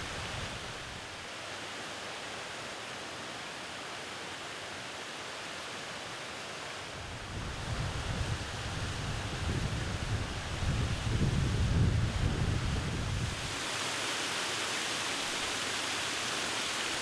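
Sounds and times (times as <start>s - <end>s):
water rushing over a weir: 0.0s - 17.0s.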